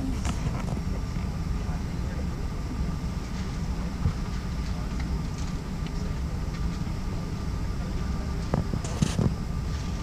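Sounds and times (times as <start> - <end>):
airplane cabin rumble: 0.0 - 10.0
faint steady hum: 0.0 - 10.0.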